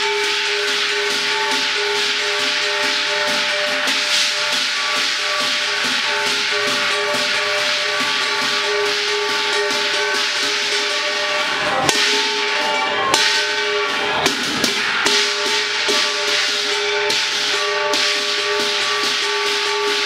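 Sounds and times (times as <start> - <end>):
clashing cymbals: 0.0 - 20.0
ringing gong: 0.0 - 20.0.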